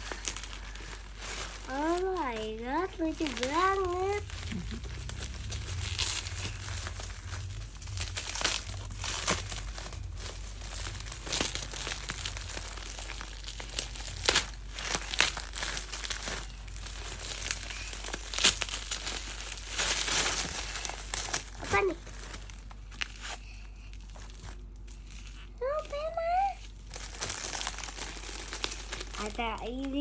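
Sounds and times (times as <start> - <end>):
packaging crinkling and rustling: 0.0 - 30.0
sharp packaging crackles: 0.0 - 30.0.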